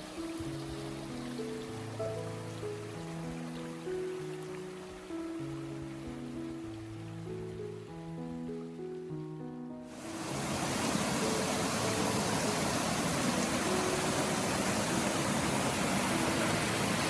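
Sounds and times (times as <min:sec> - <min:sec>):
spring water rushing: 0:00.0 - 0:09.2, 0:09.8 - 0:17.0
music: 0:00.0 - 0:17.0.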